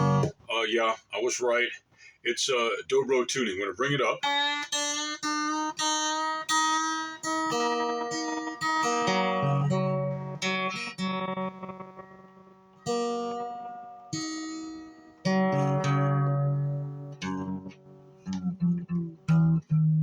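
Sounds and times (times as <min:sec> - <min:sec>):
guitar strings plucked: 0:00.0 - 0:00.4, 0:04.2 - 0:20.0.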